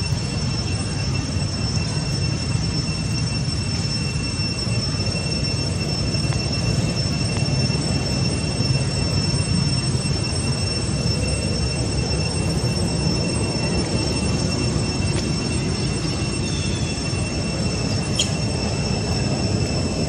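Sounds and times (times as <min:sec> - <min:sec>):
thin high-pitched whine: 0:00.0 - 0:20.0.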